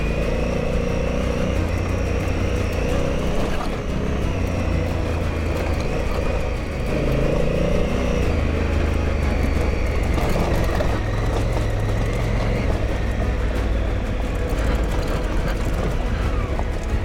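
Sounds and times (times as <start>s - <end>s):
motorcycle engine running: 0.0s - 17.0s
tyres on gravel: 0.0s - 17.0s.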